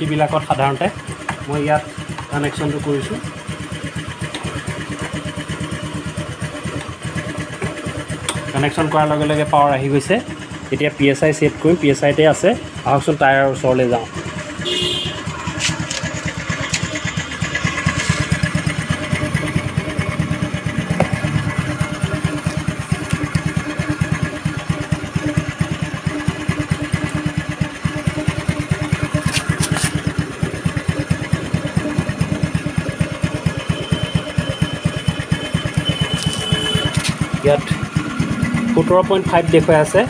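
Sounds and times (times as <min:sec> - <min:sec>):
scooter engine idling: 0:00.0 - 0:40.0.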